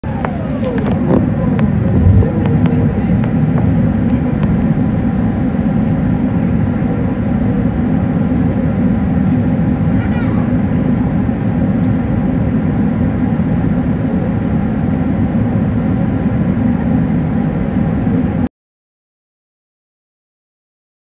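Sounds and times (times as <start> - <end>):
airliner cabin engine rumble: 0.0 - 18.5.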